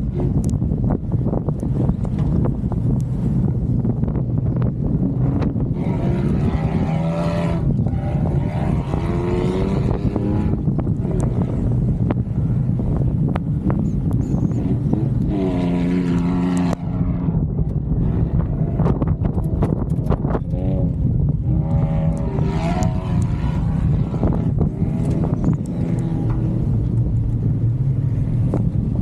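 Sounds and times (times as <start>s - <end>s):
wind noise on microphone: 0.0s - 29.0s
vehicle engine running: 0.3s - 29.0s.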